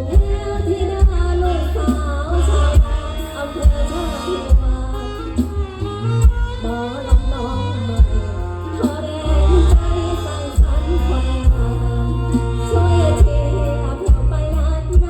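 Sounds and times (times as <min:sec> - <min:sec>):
amplified live band music: 0:00.0 - 0:15.0
heavy bass drum beats: 0:00.0 - 0:15.0.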